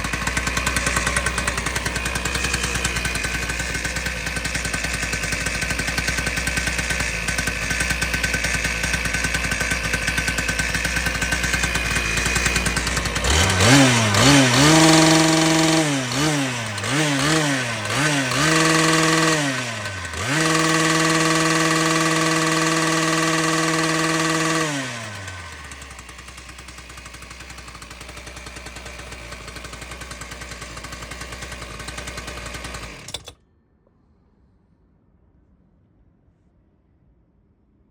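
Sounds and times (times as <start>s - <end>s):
engine cutter idling and revving: 0.0s - 33.4s.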